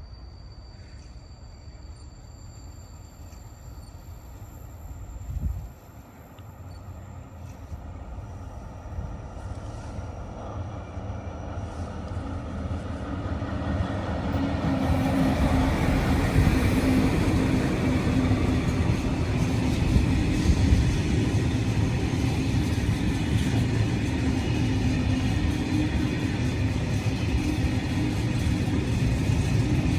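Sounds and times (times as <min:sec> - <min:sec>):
train rumbling past: 0:00.0 - 0:29.9.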